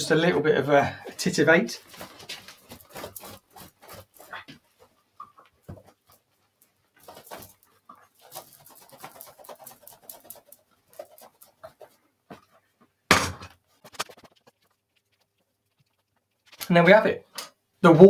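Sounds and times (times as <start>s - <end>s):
hair rustling: 1.5s - 12.7s, 13.6s - 17.0s.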